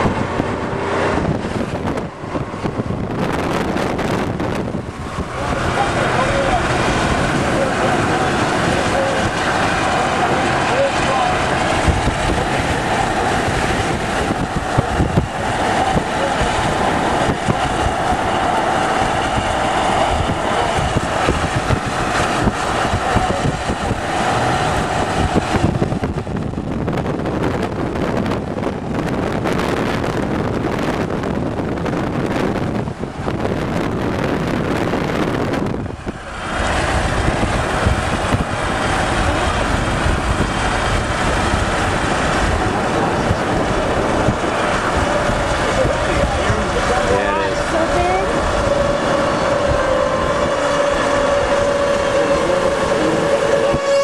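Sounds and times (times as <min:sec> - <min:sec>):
vehicle and road noise: 0:00.0 - 0:54.0
wind buffeting microphone: 0:00.0 - 0:54.0.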